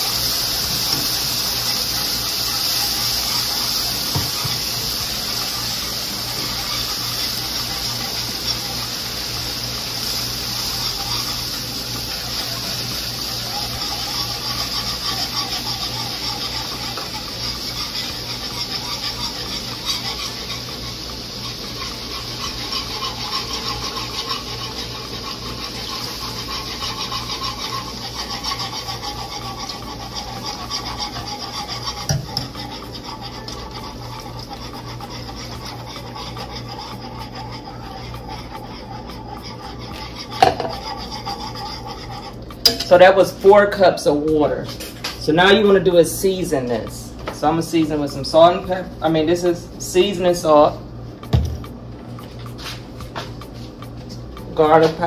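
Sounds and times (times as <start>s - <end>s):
pan hissing and sizzling: 0.0s - 55.0s
whisk scraping a skillet: 0.0s - 55.0s.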